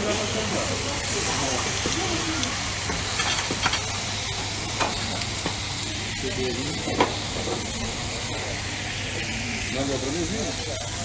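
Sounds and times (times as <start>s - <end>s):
meat sizzling on a griddle: 0.0s - 11.0s.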